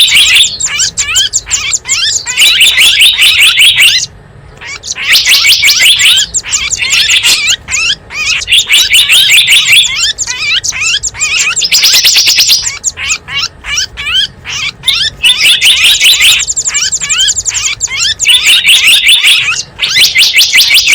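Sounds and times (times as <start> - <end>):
small birds chirping and trilling: 0.0 - 20.9.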